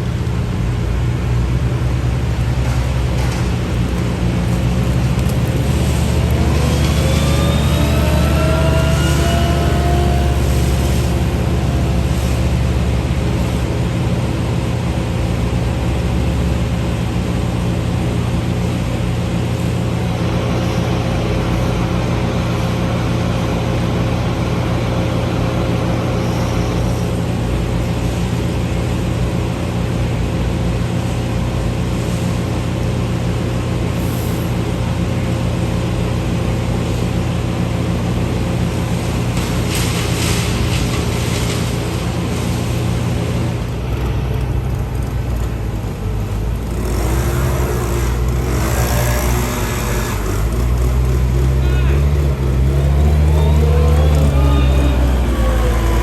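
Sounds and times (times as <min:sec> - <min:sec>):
large engine running steadily: 0:00.0 - 0:56.0.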